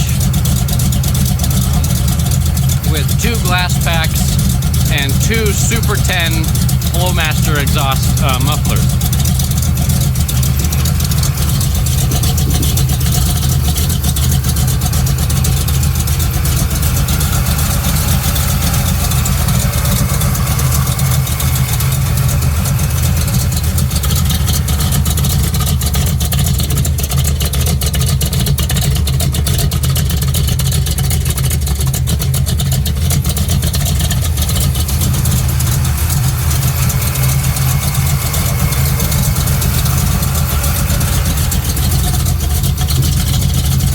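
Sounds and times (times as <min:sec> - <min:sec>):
truck engine idling: 0:00.0 - 0:43.9.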